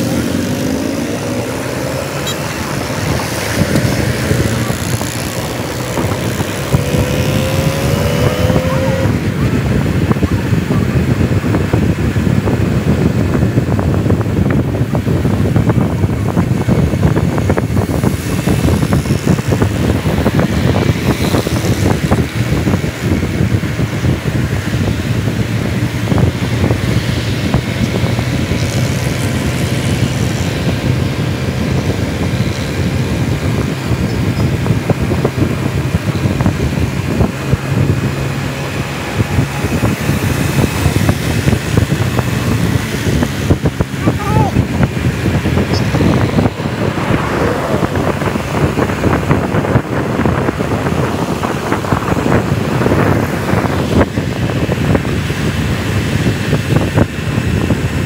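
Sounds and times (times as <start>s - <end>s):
motorcycle engines droning: 0.0s - 58.0s
wind buffeting microphone: 0.0s - 58.0s.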